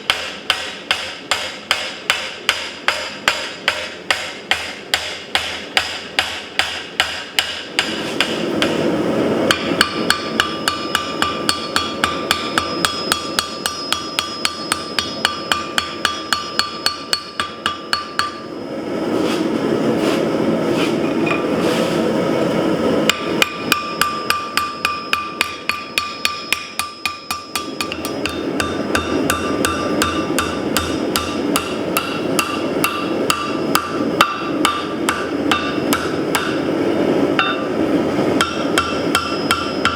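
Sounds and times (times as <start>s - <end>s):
hammer striking steel on anvil: 0.0s - 8.8s, 9.5s - 18.6s, 23.1s - 36.8s, 37.4s - 37.8s, 38.4s - 39.9s.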